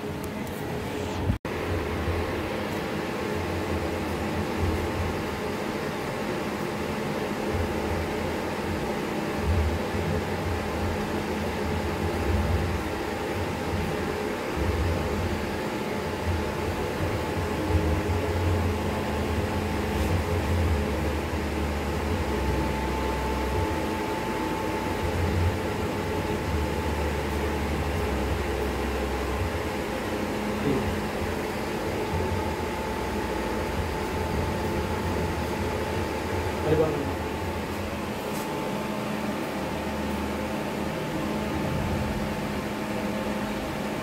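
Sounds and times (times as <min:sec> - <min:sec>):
faint constant whine: 0:00.0 - 0:44.0
steady machine hum: 0:00.0 - 0:44.0.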